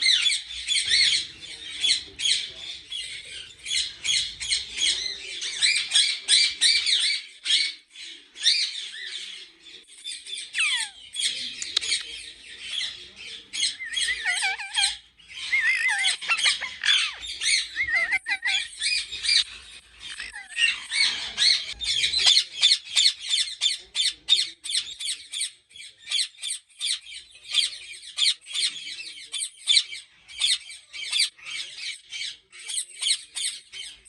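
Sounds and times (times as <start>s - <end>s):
parakeets squawking: 0.0s - 9.5s, 10.1s - 34.0s.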